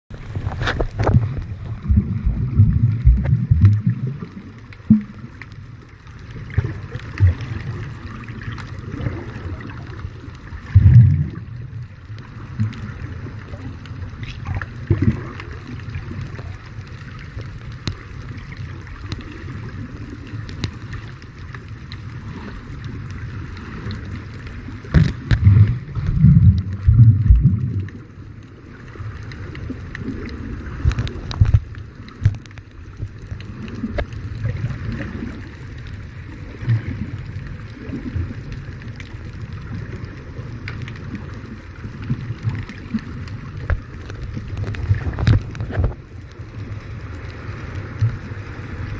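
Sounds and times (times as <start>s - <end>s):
underwater rumble and hiss: 0.1s - 48.9s.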